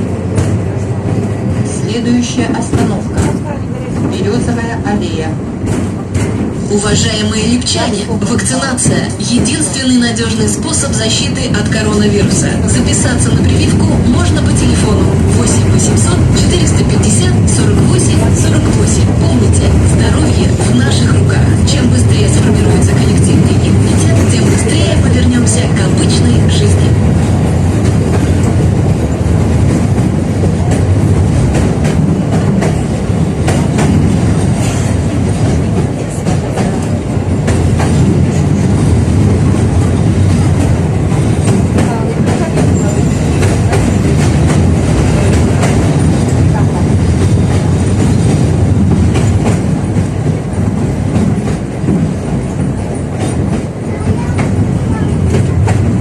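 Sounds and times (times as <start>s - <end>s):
tram rumbling: 0.0s - 56.0s.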